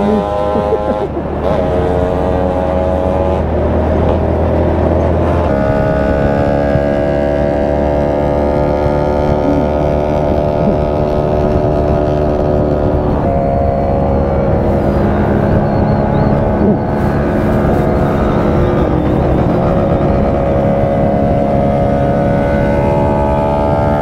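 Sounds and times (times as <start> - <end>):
motorcycle engines cruising: 0.0 - 24.0
wind and road noise: 0.0 - 24.0.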